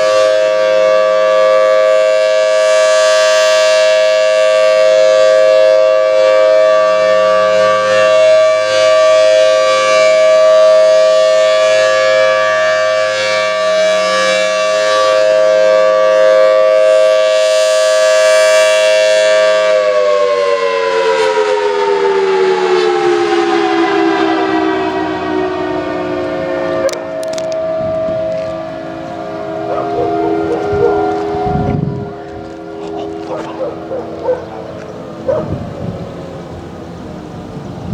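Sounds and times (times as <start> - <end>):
civil defense siren: 0.0 - 37.9.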